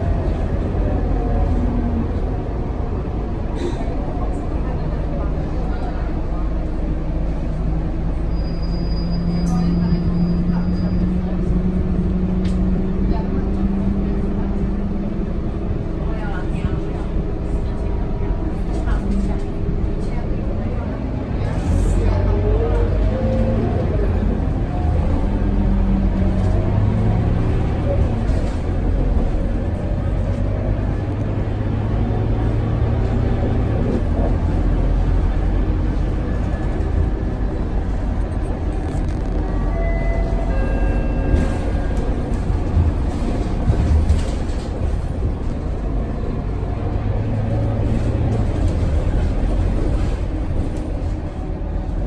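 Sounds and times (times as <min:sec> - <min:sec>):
bus diesel engine humming: 0:00.0 - 0:52.0
road noise: 0:00.0 - 0:52.0.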